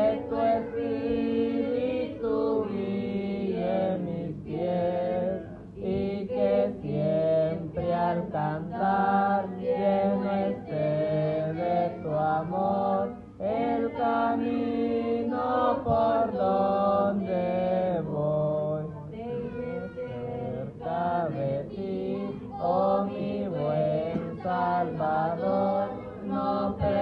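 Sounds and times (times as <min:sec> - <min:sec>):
boy and girl singing: 0:00.0 - 0:27.0.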